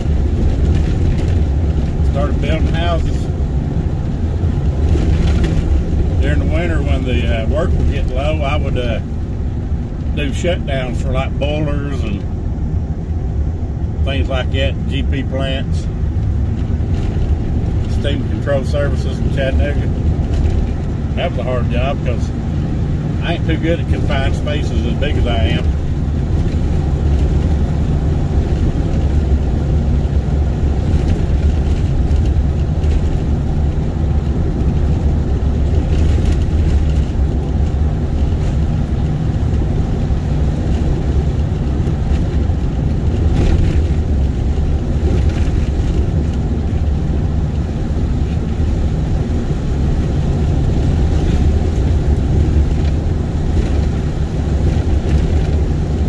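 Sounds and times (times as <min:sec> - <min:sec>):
truck engine and tyre rumble: 0:00.0 - 0:56.0.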